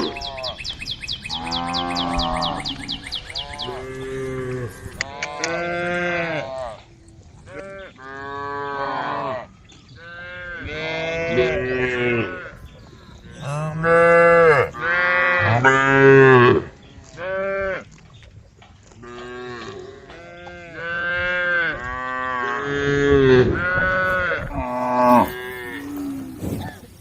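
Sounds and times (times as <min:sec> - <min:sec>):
cows mooing: 0:01.3 - 0:06.9, 0:07.5 - 0:17.8, 0:19.0 - 0:27.0.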